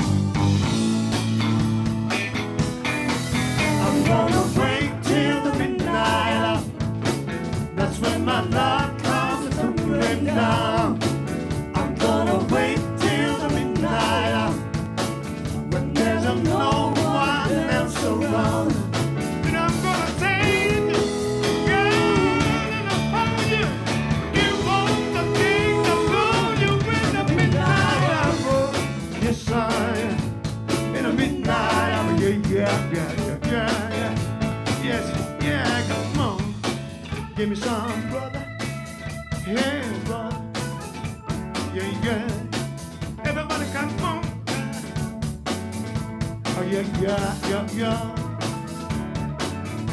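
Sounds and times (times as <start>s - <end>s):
live band playing: 0.0s - 49.9s.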